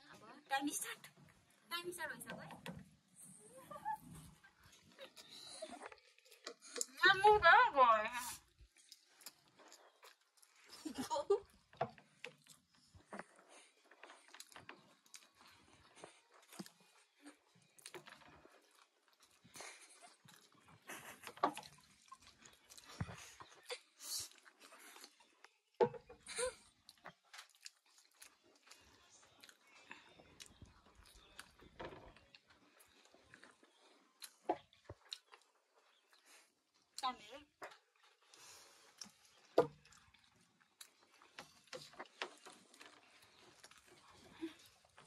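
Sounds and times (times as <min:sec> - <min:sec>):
people chewing food: 0:00.0 - 0:45.0.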